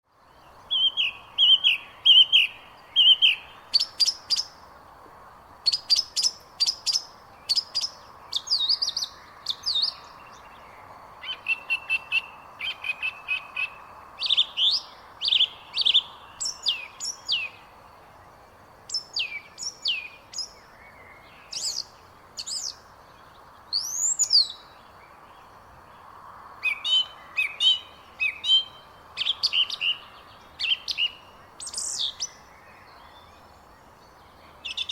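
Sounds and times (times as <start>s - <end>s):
faint background hiss: 0.0s - 34.9s
birds chirping: 5.6s - 34.9s.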